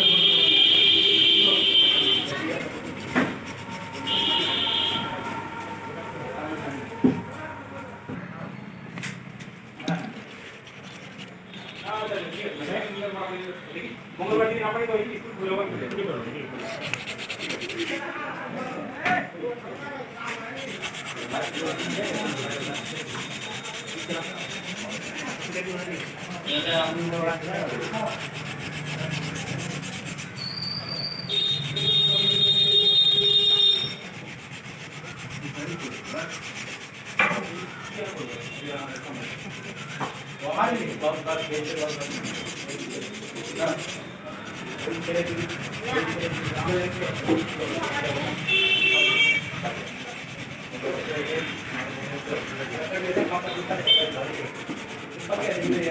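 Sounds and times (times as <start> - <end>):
sandpaper rasping: 0.0 - 7.4, 9.7 - 13.2, 16.6 - 18.2, 20.2 - 55.9.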